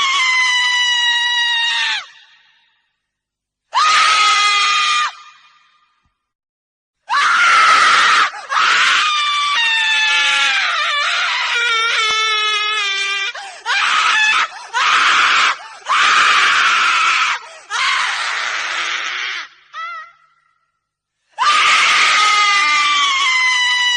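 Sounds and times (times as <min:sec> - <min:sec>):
woman screaming: 0:00.0 - 0:02.4, 0:03.7 - 0:05.5, 0:07.1 - 0:20.4, 0:21.4 - 0:23.9.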